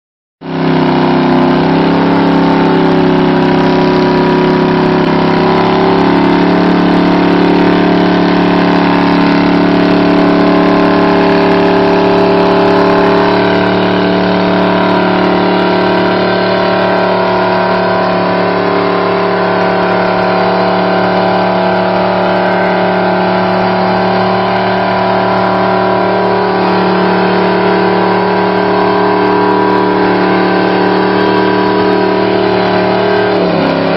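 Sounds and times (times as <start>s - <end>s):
engine revving high: 0.4s - 33.9s
tyres spinning on pavement: 0.6s - 33.9s.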